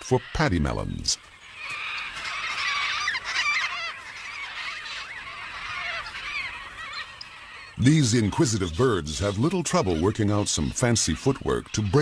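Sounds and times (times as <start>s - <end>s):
cockatoos calling: 0.0s - 12.0s.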